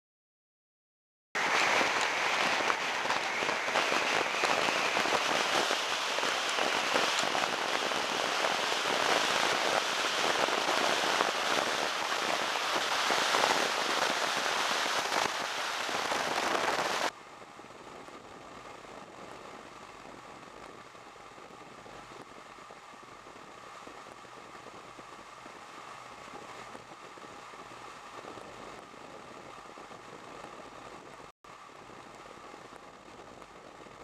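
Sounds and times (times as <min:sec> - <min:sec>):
wind noise on microphone: 0:01.4 - 0:34.0.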